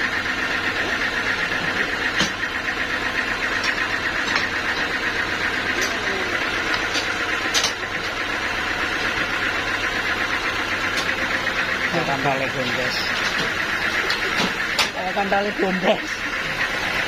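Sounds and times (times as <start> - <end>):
sawmill machinery buzzing: 0.0 - 17.0.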